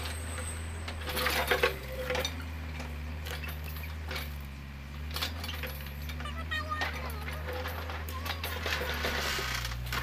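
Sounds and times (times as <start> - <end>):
excavator engine running: 0.0 - 10.0
metallic clinks and knocks: 0.4 - 10.0.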